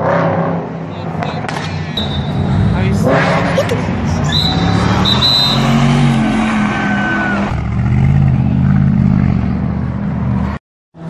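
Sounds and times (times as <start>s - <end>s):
sports car engines accelerating: 0.0s - 11.0s.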